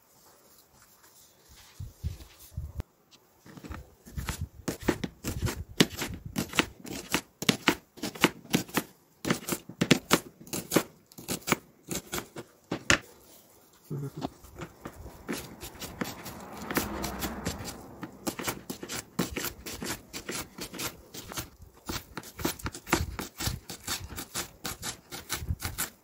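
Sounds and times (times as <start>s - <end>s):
knife slicing onion on cutting board: 3.6s - 13.1s, 14.3s - 26.0s.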